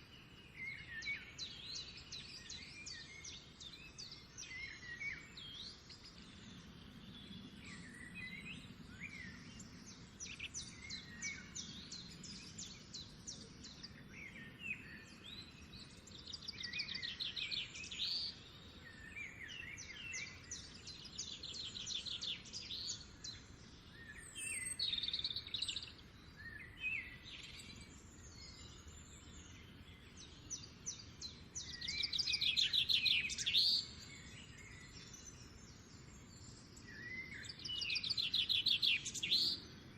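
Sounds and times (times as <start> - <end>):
faint background noise: 0.0 - 39.9
songbird trills: 0.0 - 39.9
bird chirps: 0.5 - 39.9.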